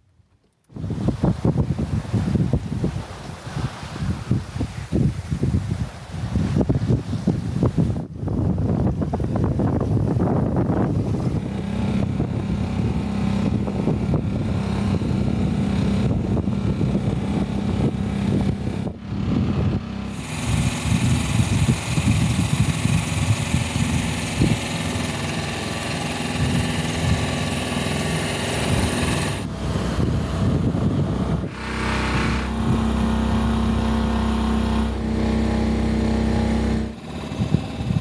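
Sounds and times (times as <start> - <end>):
boat engine running: 0.7 - 7.8, 8.5 - 38.0.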